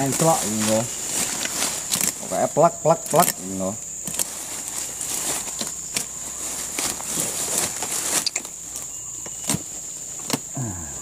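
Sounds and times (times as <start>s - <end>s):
twigs crackling: 0.0s - 10.6s
high-pitched insect drone: 0.0s - 11.0s
leaves rustling: 0.0s - 11.0s.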